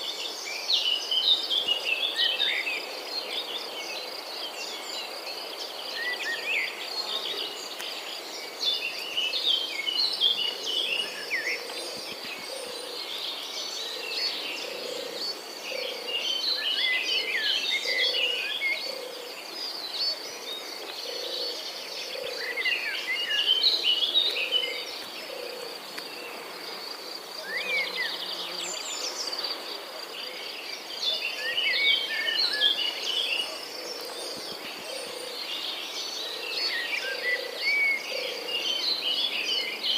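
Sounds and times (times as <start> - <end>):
crickets trilling: 0.0 - 39.8
birds singing: 0.0 - 39.9.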